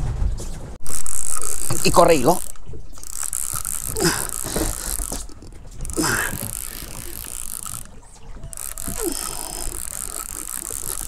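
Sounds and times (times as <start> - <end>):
fishing line running off reel: 0.8 - 11.0.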